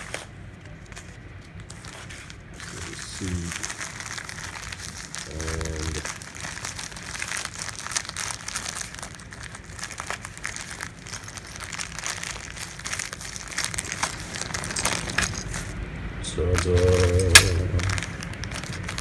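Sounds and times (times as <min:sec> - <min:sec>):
mailer bag crinkling: 0:00.0 - 0:19.0.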